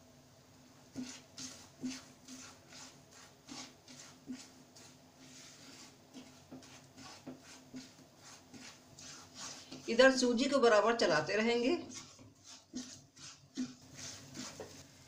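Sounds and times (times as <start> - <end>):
spatula scraping a pan: 0.9 - 10.6, 11.4 - 15.0.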